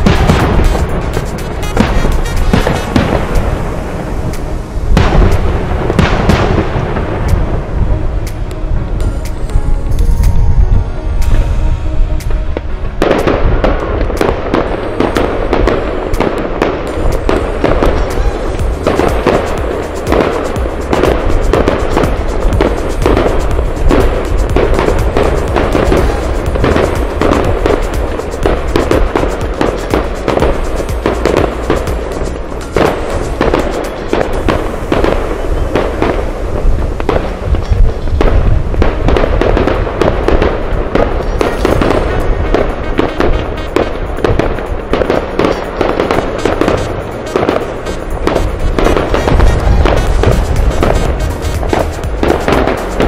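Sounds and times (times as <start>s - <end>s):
fireworks banging and crackling: 0.0s - 53.0s
music playing: 0.0s - 53.0s.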